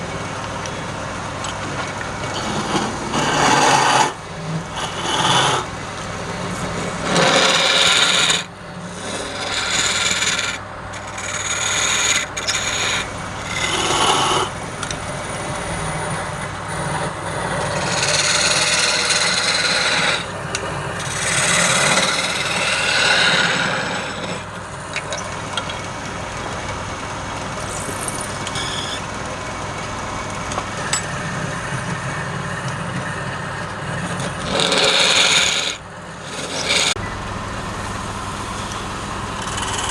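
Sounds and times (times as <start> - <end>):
wood lathe humming: 0.0 - 39.9
scraping on spinning wood: 1.7 - 29.0, 31.8 - 37.0, 39.3 - 39.9.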